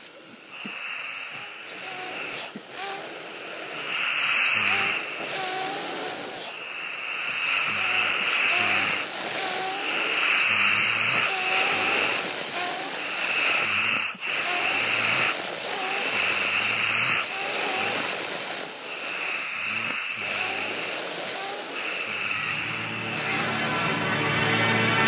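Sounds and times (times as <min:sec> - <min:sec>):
person snoring: 0:00.4 - 0:25.0.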